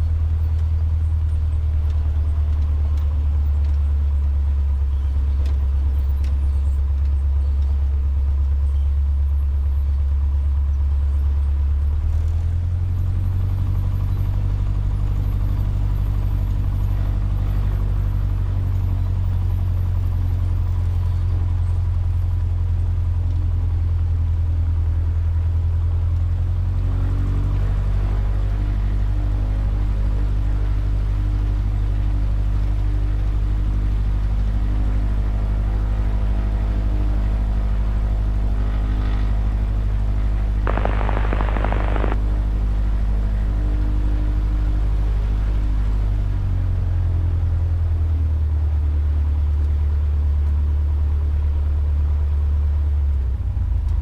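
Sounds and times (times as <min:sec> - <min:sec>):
small plane engine running: 0:00.0 - 0:54.0.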